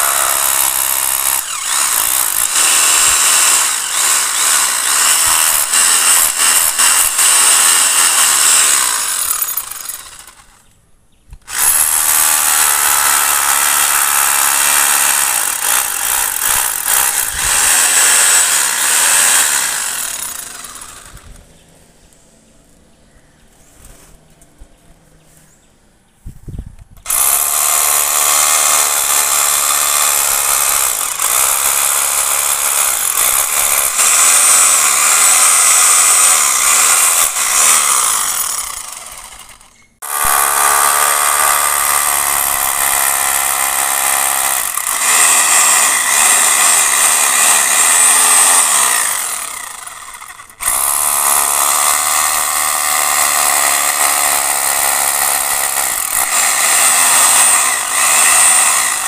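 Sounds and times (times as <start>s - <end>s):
hammer drill boring into concrete: 0.0s - 10.6s, 11.4s - 21.4s, 27.0s - 59.0s.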